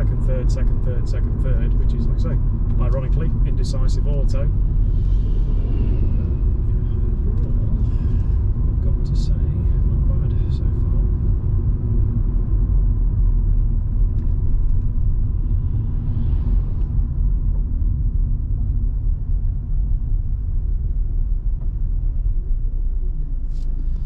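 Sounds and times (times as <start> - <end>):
car engine running: 0.0 - 24.0
road and tyre noise: 0.0 - 24.0.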